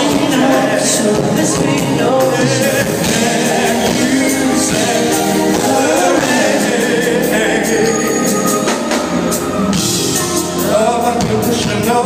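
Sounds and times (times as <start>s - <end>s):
male vocal group singing in harmony: 0.0s - 9.5s, 10.3s - 12.0s
live band playing: 0.0s - 12.0s.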